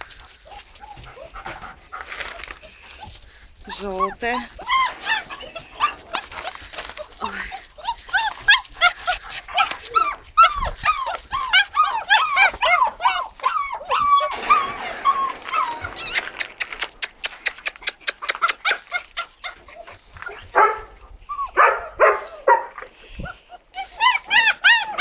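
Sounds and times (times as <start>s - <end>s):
puppies whining and yelping: 0.0s - 25.0s.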